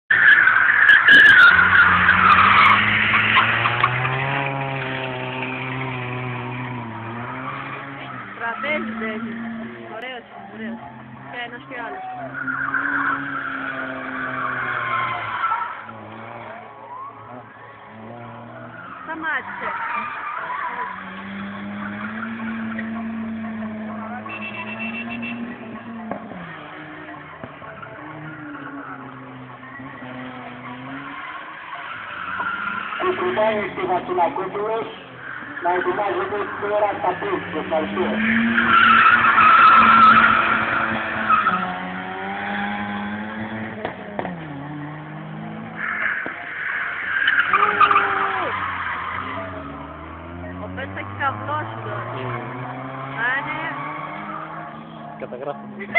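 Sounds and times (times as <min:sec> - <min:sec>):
tyres squealing: 0:00.1 - 0:44.6, 0:45.4 - 0:55.9
car engine at high revs: 0:00.1 - 0:55.9.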